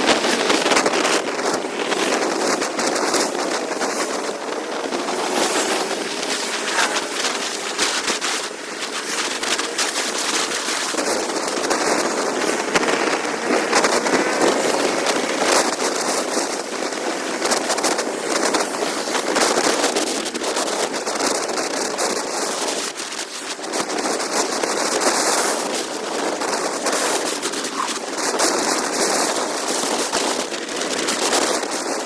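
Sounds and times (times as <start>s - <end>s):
motorcycle engine: 0.0s - 30.6s
wind rushing over microphone: 0.0s - 32.0s.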